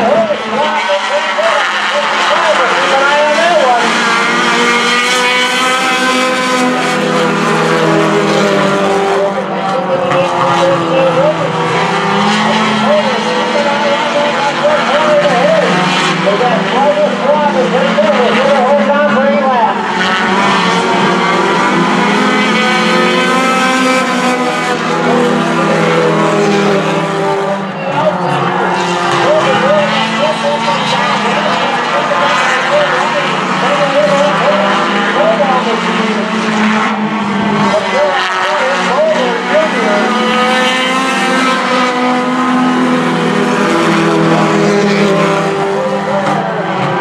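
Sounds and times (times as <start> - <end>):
race car engines at high revs: 0.0 - 47.0.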